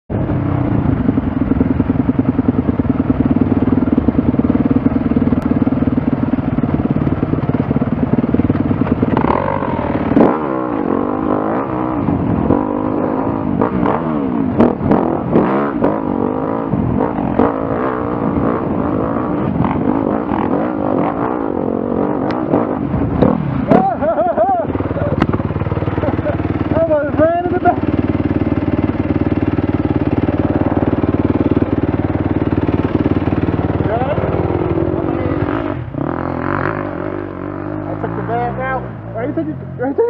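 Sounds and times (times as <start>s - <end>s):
dirt bike engine revving: 0.1s - 40.0s.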